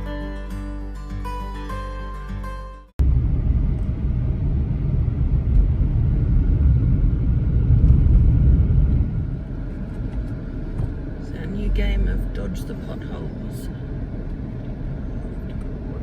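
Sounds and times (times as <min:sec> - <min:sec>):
car driving rumble: 0:03.0 - 0:16.0.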